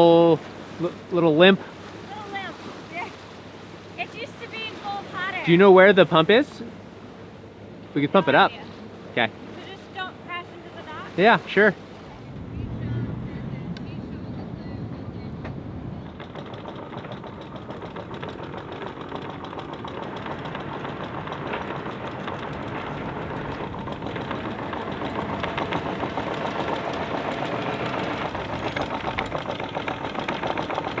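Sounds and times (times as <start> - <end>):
boat engine knocking: 0.0 - 31.0.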